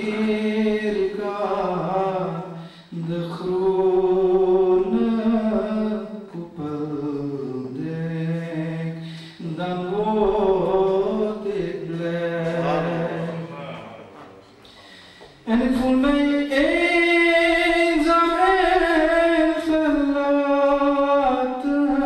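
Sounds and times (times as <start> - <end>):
man singing unaccompanied: 0.0 - 14.0, 15.4 - 22.0.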